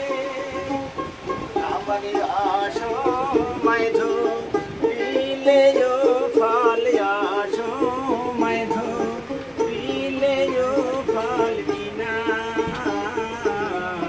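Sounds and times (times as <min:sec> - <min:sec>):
man singing folk song: 0:00.0 - 0:14.0
plucked lute: 0:00.0 - 0:14.0.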